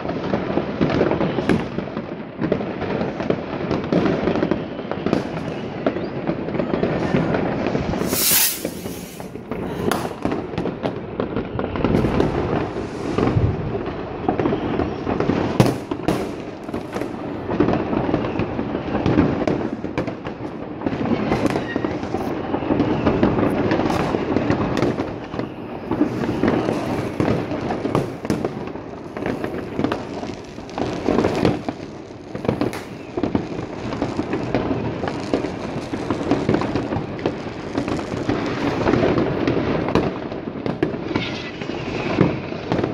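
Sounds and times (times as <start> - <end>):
fireworks banging and crackling: 0.0 - 42.9.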